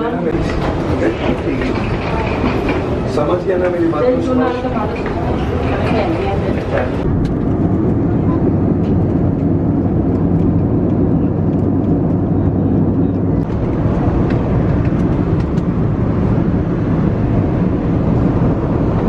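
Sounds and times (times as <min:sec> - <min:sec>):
airliner cabin engine rush: 0:00.0 - 0:19.0.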